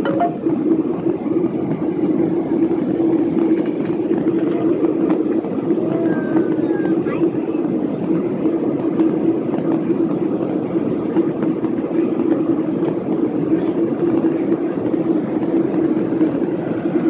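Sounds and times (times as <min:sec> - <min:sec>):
airplane cabin drone: 0:00.0 - 0:17.0.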